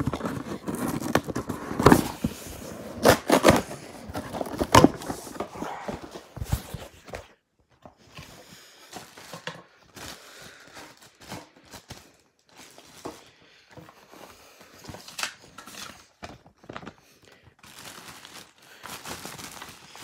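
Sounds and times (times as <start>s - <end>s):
plastic and cardboard being handled: 0.0s - 20.0s.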